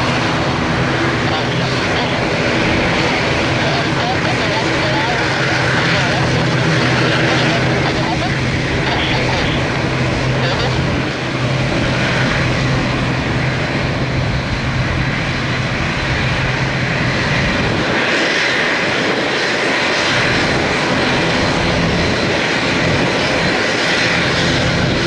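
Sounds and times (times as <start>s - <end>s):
propeller drone: 0.0s - 25.0s.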